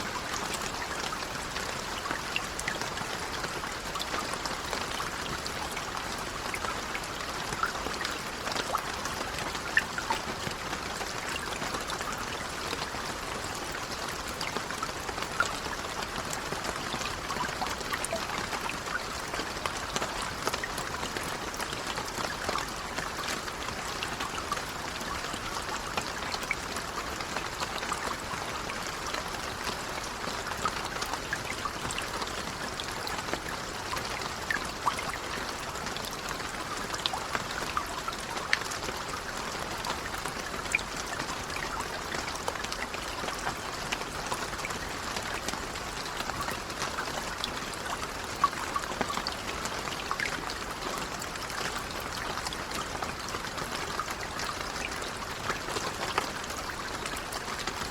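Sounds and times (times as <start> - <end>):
gentle rain patter: 0.0 - 57.9.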